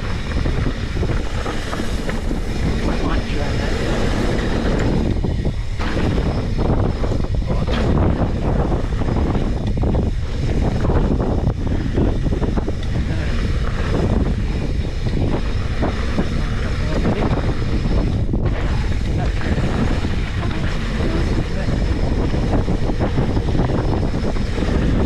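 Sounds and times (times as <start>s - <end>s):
rattles and scrapes over rough ground: 0.0s - 25.0s
wind buffeting microphone: 0.0s - 25.0s.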